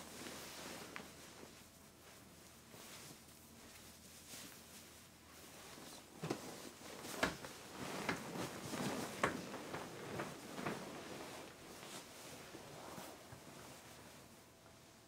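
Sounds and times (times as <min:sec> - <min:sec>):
clothing and bedding rustling: 0:00.0 - 0:15.0.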